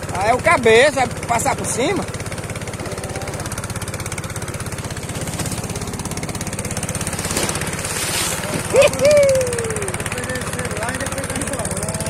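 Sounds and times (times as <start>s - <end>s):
boat engine chugging: 0.0s - 12.0s
water: 0.0s - 12.0s
wind: 0.0s - 12.0s.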